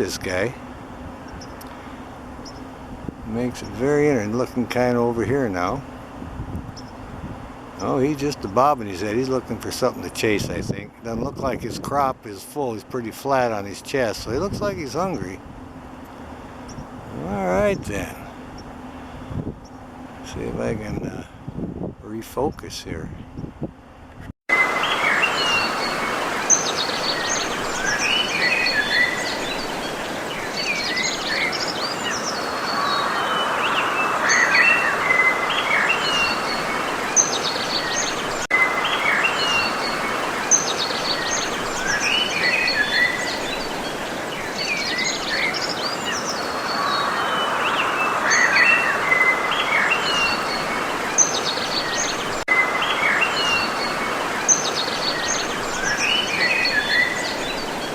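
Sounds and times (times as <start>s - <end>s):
small birds chirping and trilling: 0.0s - 10.4s, 12.6s - 15.4s, 16.3s - 20.9s, 24.5s - 57.9s
steady outdoor hiss: 0.0s - 57.9s.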